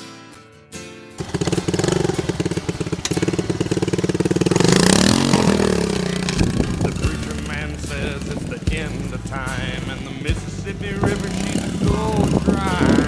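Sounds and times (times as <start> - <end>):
dirt bike engine revving: 1.2 - 13.0.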